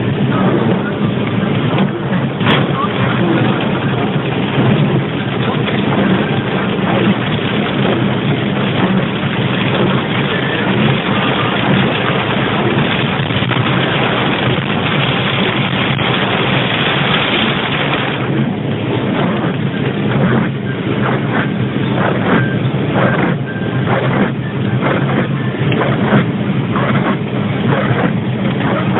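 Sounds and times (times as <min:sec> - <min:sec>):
low engine hum: 0:00.0 - 0:28.9
rain on car roof: 0:00.0 - 0:28.9
tyres on wet road: 0:00.0 - 0:28.9.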